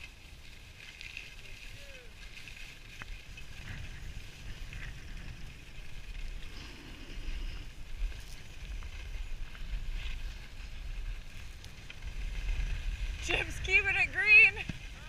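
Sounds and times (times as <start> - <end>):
skis scraping on snow: 0.0 - 15.0
wind buffeting microphone: 1.6 - 15.0.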